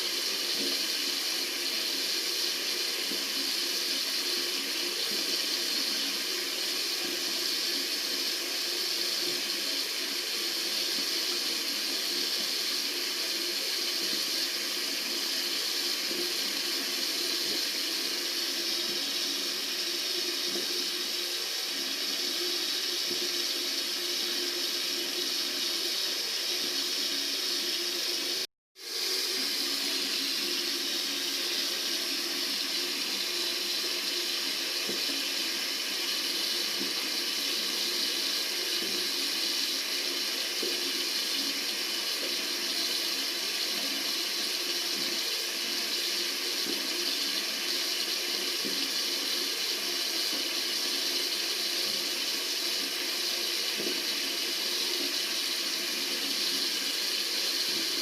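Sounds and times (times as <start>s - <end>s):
tap water running: 0.0s - 58.0s.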